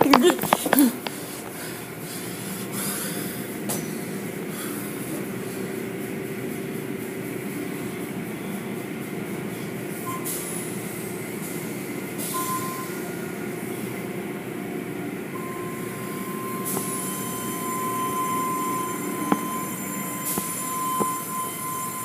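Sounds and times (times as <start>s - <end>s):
car wash machinery rumble: 0.0s - 22.0s
high-pitched whine: 3.4s - 22.0s.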